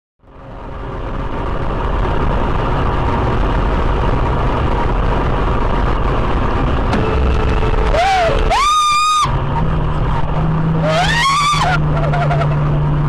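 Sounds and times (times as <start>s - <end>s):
vehicle engine and road noise: 0.2s - 13.0s.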